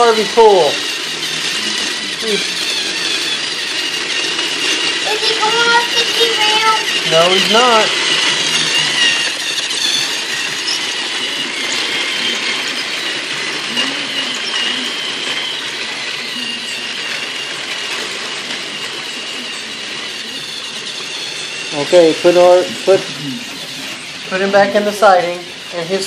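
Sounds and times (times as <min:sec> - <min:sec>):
toy train motor whirring: 0:00.0 - 0:26.0
wheels rattling on plastic track: 0:00.0 - 0:26.0.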